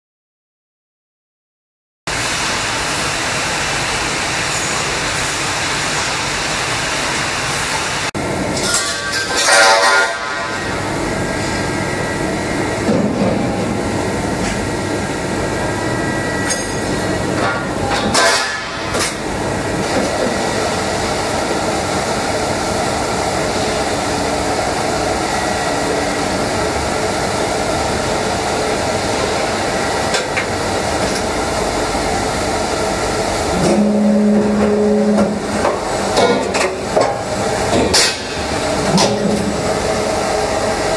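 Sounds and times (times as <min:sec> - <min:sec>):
machine running noise: 0:02.1 - 0:40.9.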